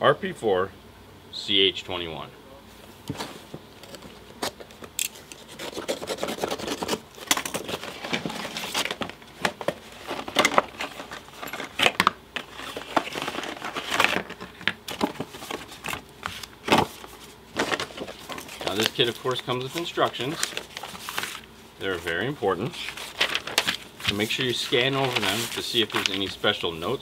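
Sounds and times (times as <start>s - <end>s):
paper sheet rustling: 5.3s - 27.0s.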